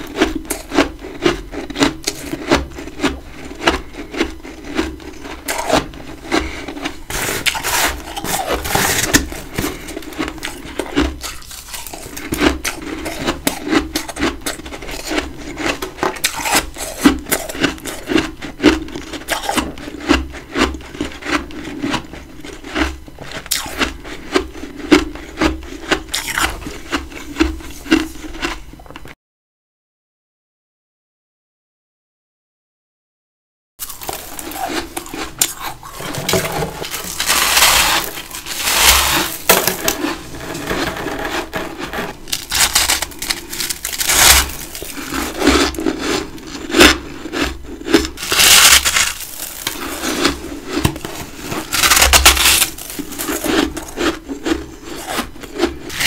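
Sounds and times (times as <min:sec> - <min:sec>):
frost being bitten and chewed: 0:00.0 - 0:28.6, 0:33.8 - 0:56.0.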